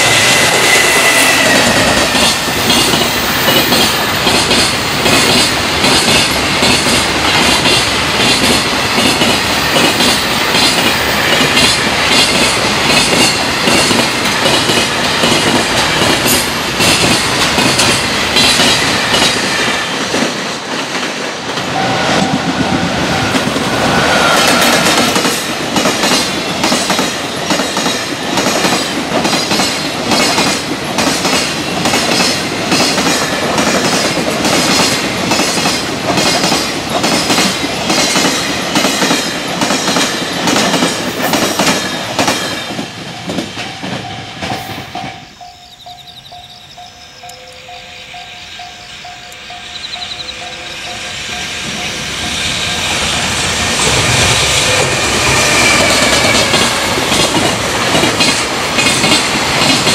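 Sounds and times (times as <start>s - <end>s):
train wheels clattering over rails: 0.0s - 46.5s, 49.5s - 59.9s.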